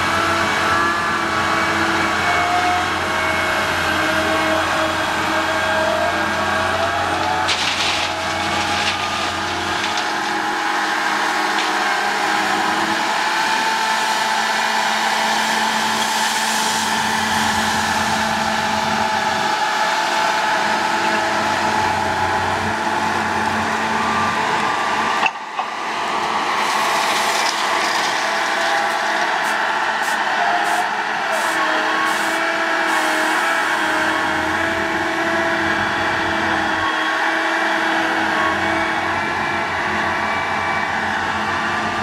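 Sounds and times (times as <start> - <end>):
diesel engine under load: 0.0 - 42.0.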